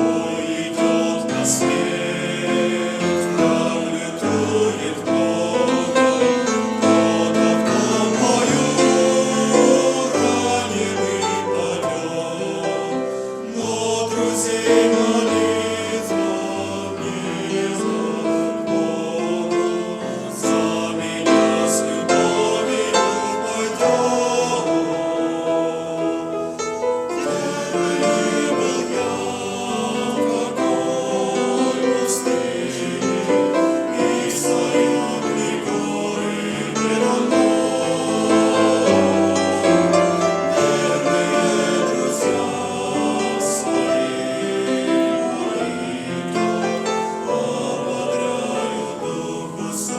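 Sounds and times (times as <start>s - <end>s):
choir singing: 0.0s - 49.9s
piano accompaniment: 0.0s - 49.9s.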